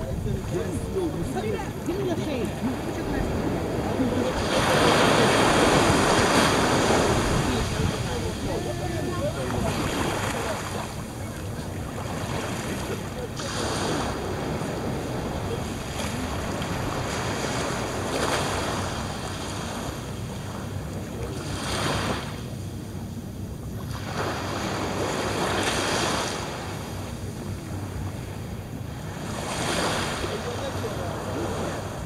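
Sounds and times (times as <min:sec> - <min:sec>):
small waves breaking on sand: 0:00.0 - 0:23.0, 0:23.7 - 0:32.0
wind rumble on microphone: 0:00.0 - 0:32.0.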